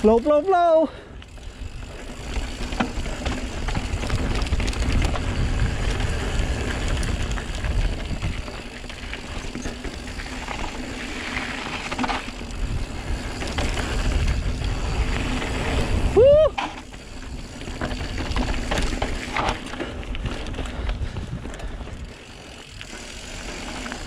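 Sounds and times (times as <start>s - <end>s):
bike clicks and rattles: 0.0s - 24.0s
bike tyres crunching over gravel: 0.0s - 24.0s
wind buffeting microphone: 1.2s - 10.8s, 12.1s - 23.0s.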